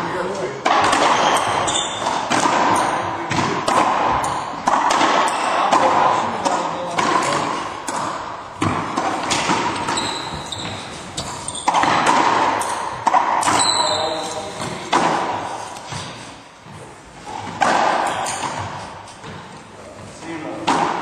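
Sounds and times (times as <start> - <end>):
racquetball hits echoing: 0.0 - 21.0.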